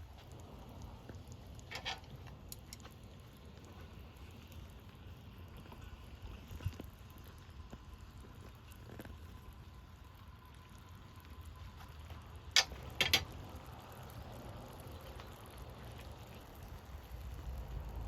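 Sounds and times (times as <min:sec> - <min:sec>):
steady low rumble: 0:00.0 - 0:18.0
wood fire crackling: 0:00.0 - 0:18.0.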